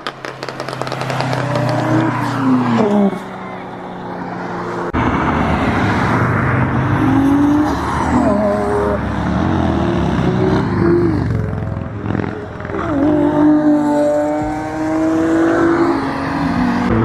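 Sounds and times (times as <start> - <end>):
car engine accelerating: 0.1 - 17.0.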